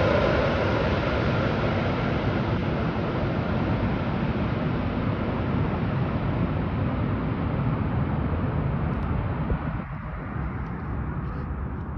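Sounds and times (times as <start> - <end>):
jet airliner landing: 0.0 - 11.9.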